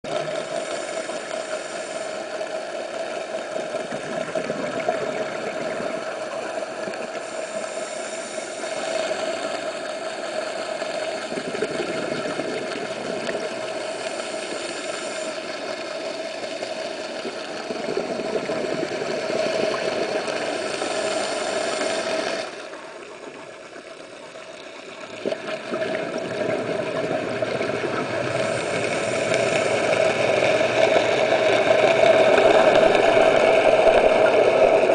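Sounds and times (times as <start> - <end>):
boat engine droning underwater: 0.0 - 34.9
water noise: 0.0 - 34.9.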